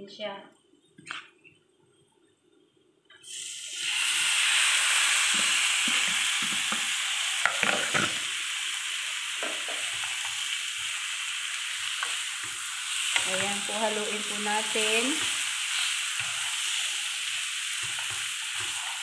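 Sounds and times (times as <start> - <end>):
chicken sizzling in hot pan: 3.2 - 19.0.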